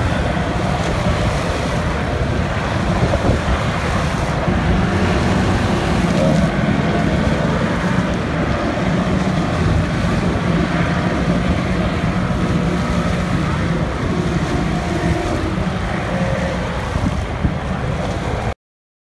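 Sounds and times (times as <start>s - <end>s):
wind buffeting microphone: 0.0s - 18.5s
powerboat engines droning: 0.0s - 18.6s
rough water wash: 0.0s - 18.6s.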